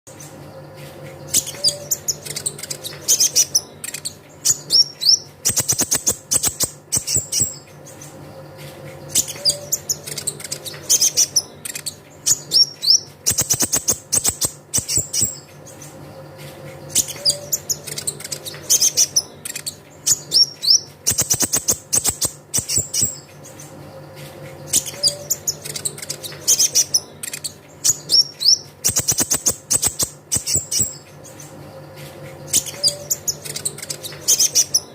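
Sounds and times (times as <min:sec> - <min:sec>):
bird chirps and trills: 0:00.1 - 0:34.9.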